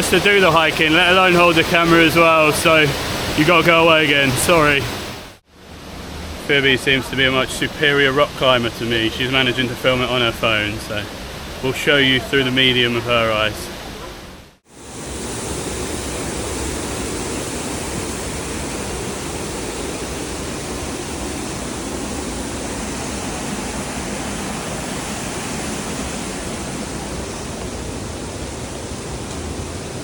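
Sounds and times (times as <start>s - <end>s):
waterfall rushing water: 0.0s - 30.0s.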